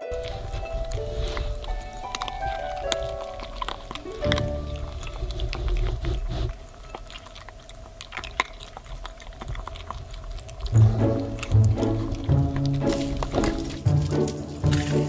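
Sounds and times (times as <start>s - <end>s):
puppies crunching dry kibble: 0.0s - 15.0s.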